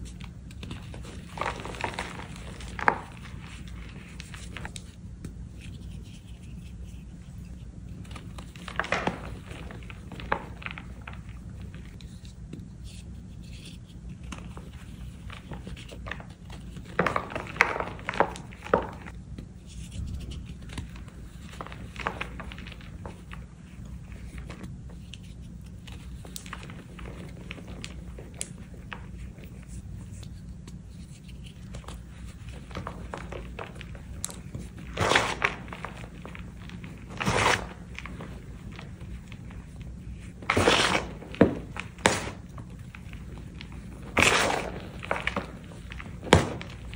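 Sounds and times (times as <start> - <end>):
chalk block crunching: 0.0 - 4.9, 12.9 - 46.9.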